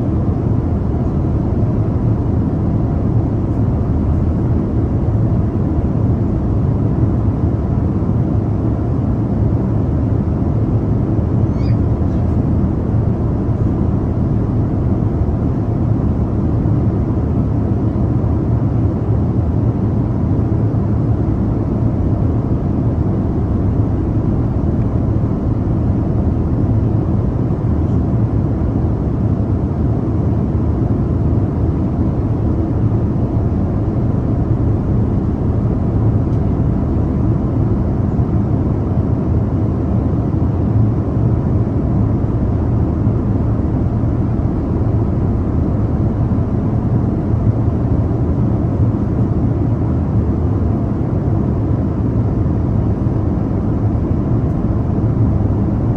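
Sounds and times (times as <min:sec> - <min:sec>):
airliner cabin roar: 0:00.0 - 0:55.9.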